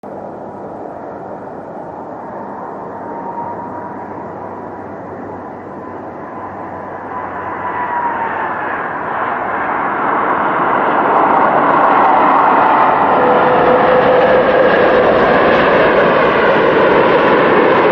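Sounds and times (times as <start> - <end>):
airplane engine rush and whine: 0.0 - 17.9.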